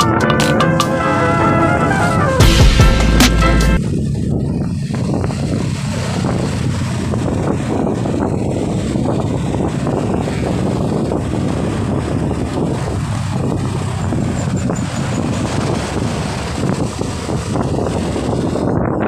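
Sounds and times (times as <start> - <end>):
motorcycle engine cruising: 0.0 - 19.0
wind rushing over microphone: 3.7 - 19.0.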